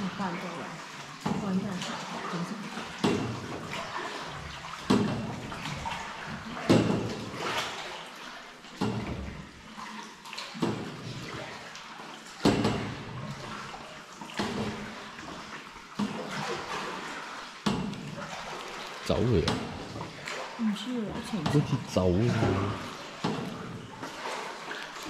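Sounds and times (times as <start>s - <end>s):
oars splashing in water: 0.0s - 25.0s.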